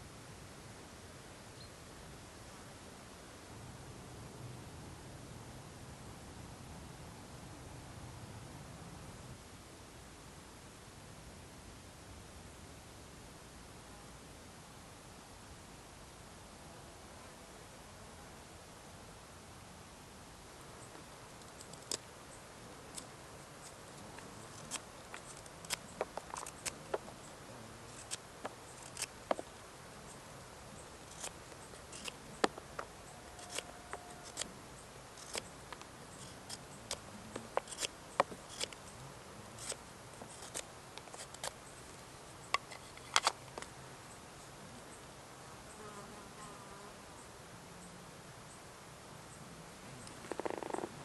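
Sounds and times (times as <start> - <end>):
quiet hiss: 0.0 - 51.0.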